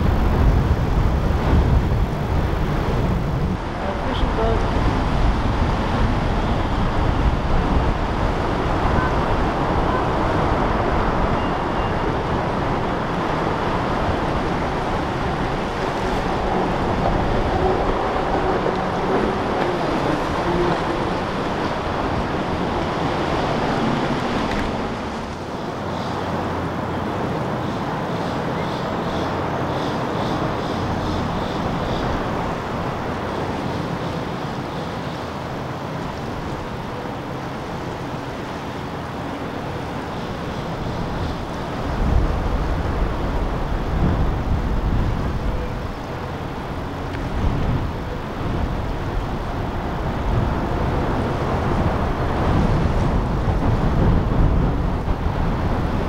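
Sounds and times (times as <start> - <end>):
boat engines running: 0.0 - 56.0
wind: 0.0 - 56.0.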